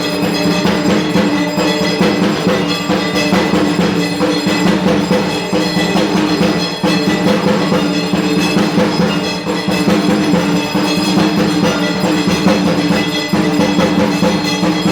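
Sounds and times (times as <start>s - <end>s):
barrel drum beaten with sticks: 0.0s - 14.9s.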